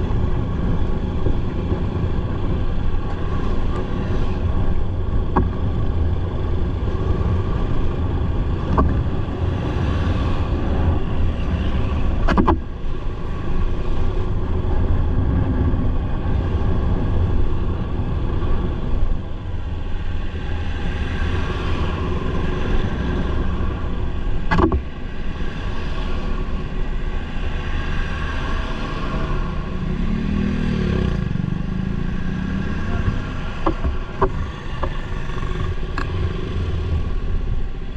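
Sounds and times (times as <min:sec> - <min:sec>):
wind rumble on microphone: 0:00.0 - 0:37.9.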